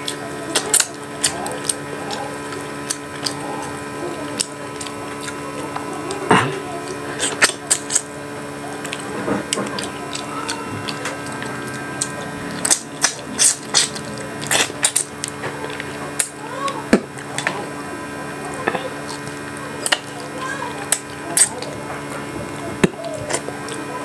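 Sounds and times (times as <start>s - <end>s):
steady low hum: 0.0s - 24.0s
wet chewing: 0.0s - 24.0s.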